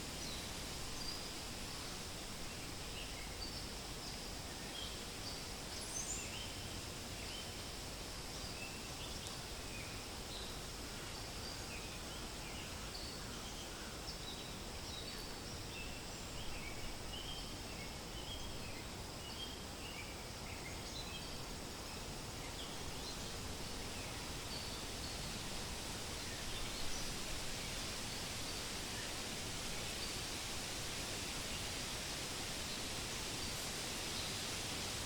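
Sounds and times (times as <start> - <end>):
songbirds chirping: 0.0 - 35.0
wind rustling leaves: 0.0 - 35.0.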